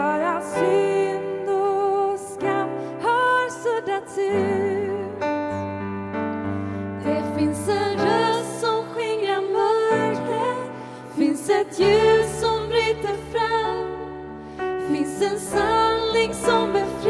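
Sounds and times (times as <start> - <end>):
woman singing with vibrato: 0.0 - 5.2, 7.1 - 14.0, 14.8 - 17.0.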